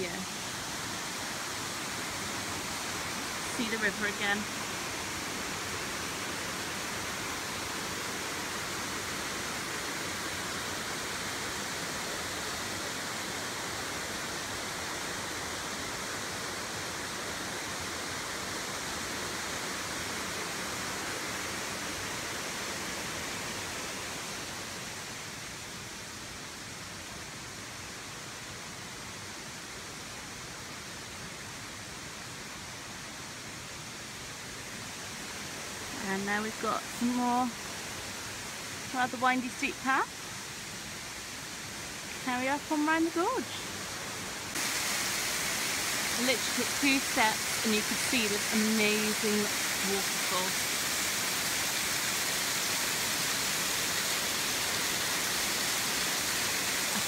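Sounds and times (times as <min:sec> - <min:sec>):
river rushing over boulders: 0:00.0 - 0:57.0.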